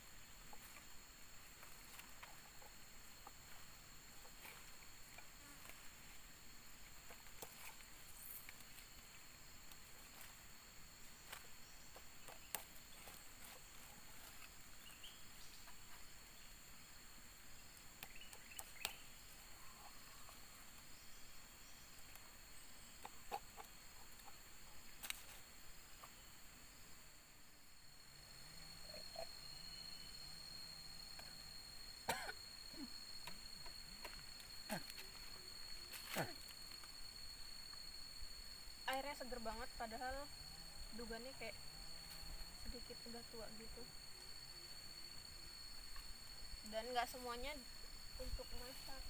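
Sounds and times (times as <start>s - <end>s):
forest insects droning: 0.0s - 49.0s.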